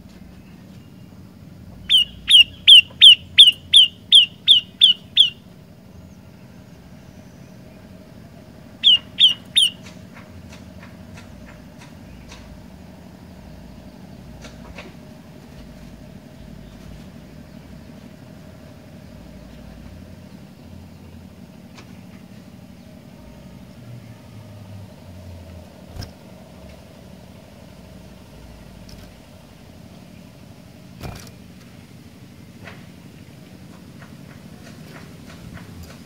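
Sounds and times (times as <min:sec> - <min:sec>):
low rumble with faint hum: 0:00.0 - 0:36.0.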